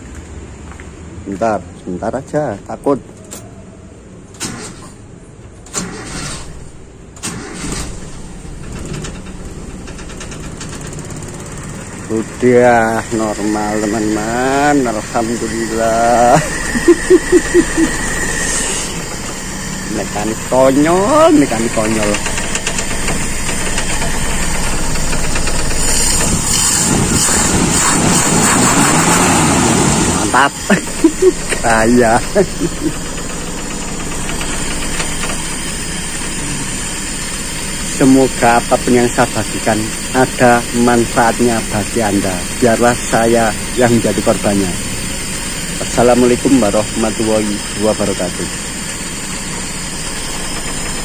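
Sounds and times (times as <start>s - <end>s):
engine idling: 4.0s - 51.0s
engine cranking on starter: 4.3s - 51.0s.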